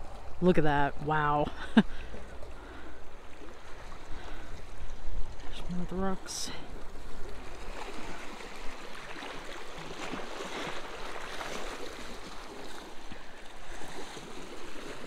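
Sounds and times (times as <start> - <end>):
waves splashing against rocks: 0.0 - 15.0.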